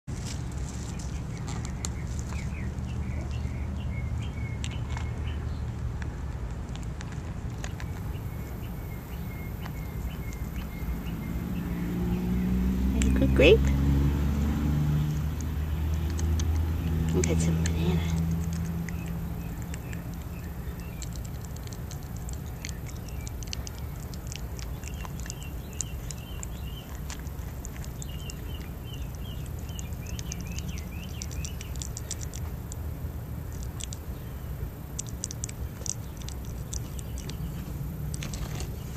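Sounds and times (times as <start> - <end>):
porcupine chewing with crunching: 0.1 - 13.2, 13.8 - 38.9.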